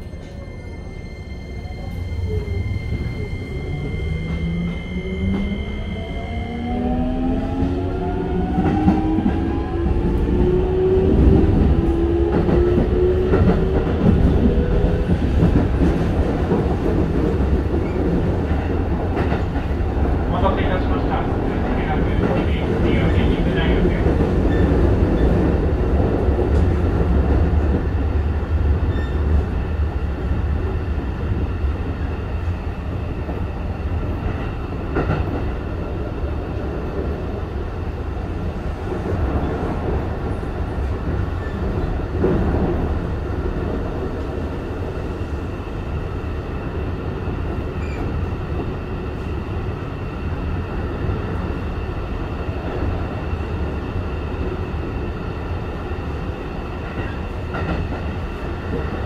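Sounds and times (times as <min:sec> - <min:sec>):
train wheels rumbling on rail: 0:01.8 - 0:59.0.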